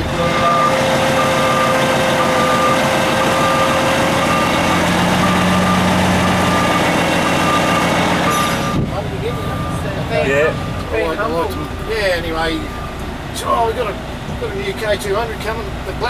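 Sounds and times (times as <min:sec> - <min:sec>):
reversing alarm beeping: 0:00.0 - 0:15.6
heavy truck engine running: 0:00.0 - 0:16.0.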